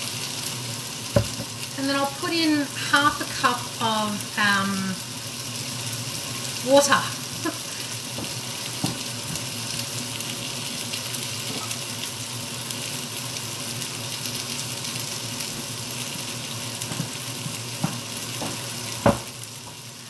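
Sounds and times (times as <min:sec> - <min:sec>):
chicken sizzling in frying pan: 0:00.0 - 0:20.0.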